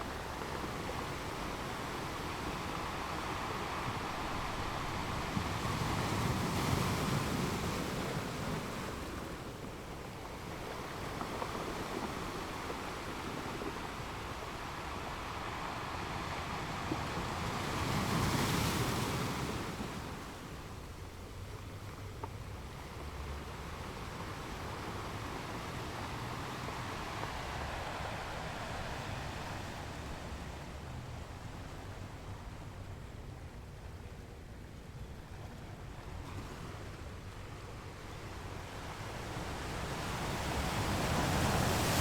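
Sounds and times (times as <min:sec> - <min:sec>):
ocean waves breaking on beach: 0:00.0 - 0:33.1, 0:35.3 - 0:42.0.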